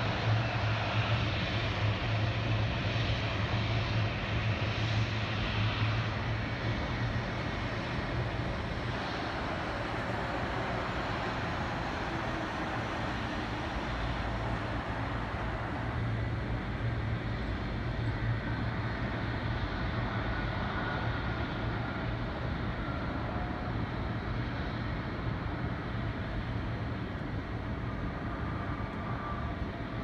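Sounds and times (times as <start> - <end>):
distant jet engines rumble: 0.0 - 30.0.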